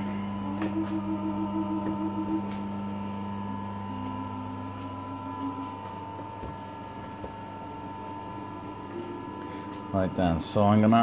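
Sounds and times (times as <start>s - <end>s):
low electrical hum of machinery: 0.0s - 11.0s.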